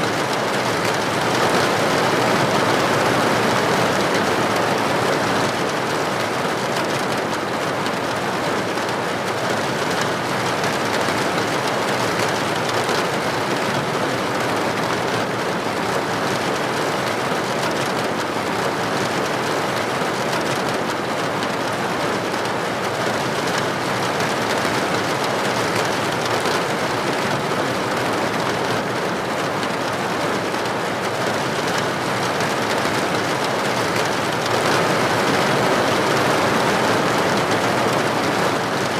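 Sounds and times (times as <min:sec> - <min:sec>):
heavy rain on hard surface: 0:00.0 - 0:38.9.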